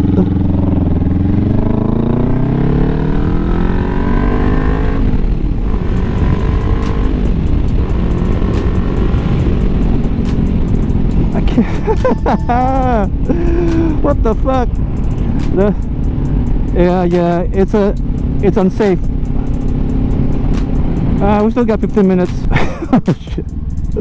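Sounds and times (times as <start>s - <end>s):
motorcycle engine accelerating: 0.0s - 24.0s
wind noise: 1.2s - 24.0s.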